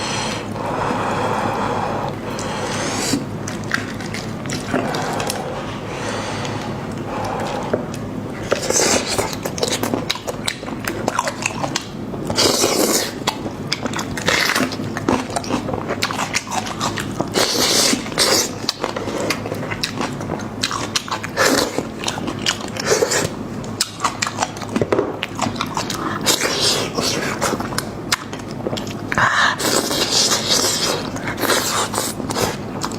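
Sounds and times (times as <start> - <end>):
person chewing meat: 0.0 - 32.9.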